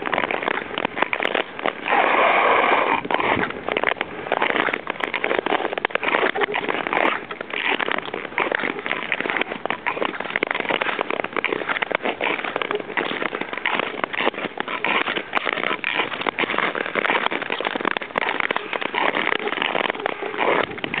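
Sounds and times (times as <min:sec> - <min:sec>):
ice crackling clicks: 0:00.0 - 0:21.0
skate blades scraping ice: 0:00.0 - 0:21.0.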